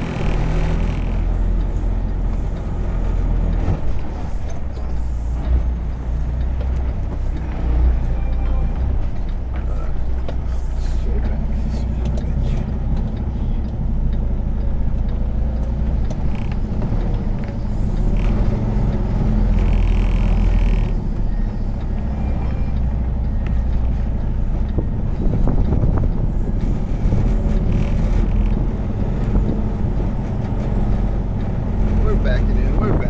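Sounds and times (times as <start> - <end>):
truck diesel engine rumbling: 0.0 - 33.0.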